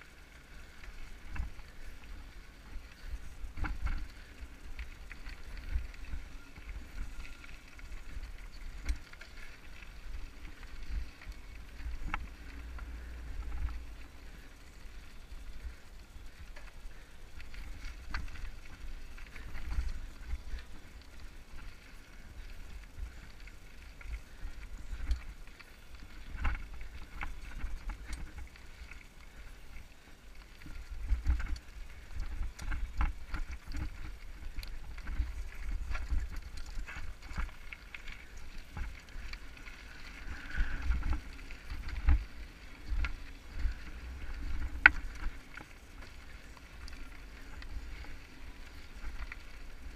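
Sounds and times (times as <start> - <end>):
bike rattling over stones: 0.0 - 49.9
wind rumbling on microphone: 0.0 - 49.9.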